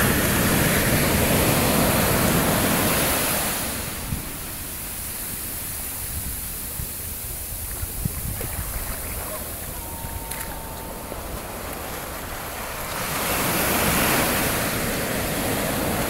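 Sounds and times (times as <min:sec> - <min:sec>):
surf washing over sand: 0:00.0 - 0:16.0
wind rumble on microphone: 0:00.0 - 0:16.0.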